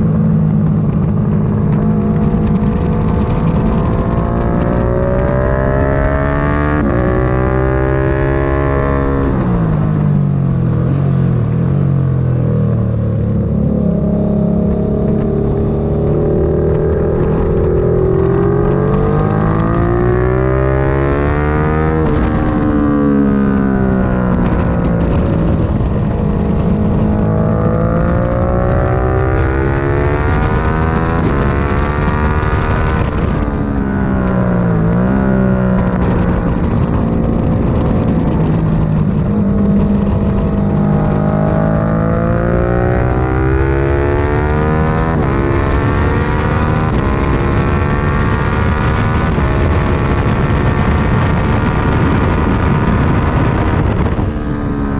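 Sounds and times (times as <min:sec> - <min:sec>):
motorcycle engine revving through gears: 0:00.0 - 0:54.9
wind rushing: 0:00.0 - 0:54.9.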